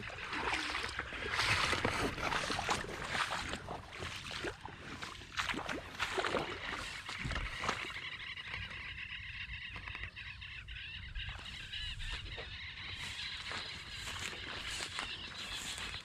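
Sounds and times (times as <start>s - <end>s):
footsteps through wet grass: 0.0s - 8.7s, 11.2s - 16.0s
waterbirds calling: 0.0s - 16.0s.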